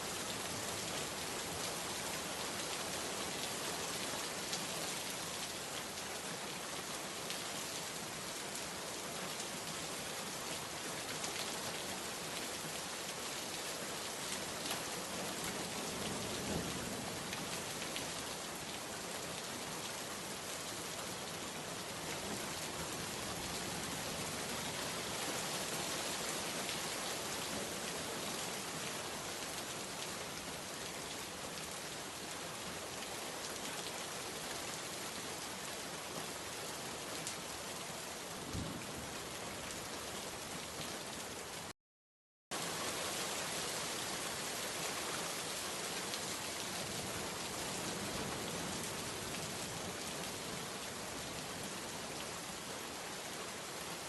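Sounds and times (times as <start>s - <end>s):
heavy rain: 0.0s - 41.8s, 42.5s - 54.0s.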